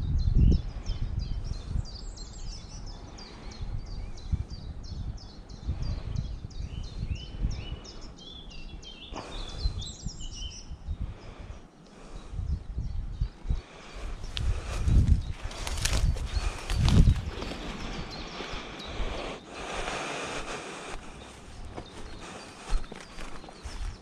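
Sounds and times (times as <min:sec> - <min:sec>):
small songbirds chirping: 0:00.0 - 0:24.0
wind rumble on microphone: 0:00.0 - 0:24.0.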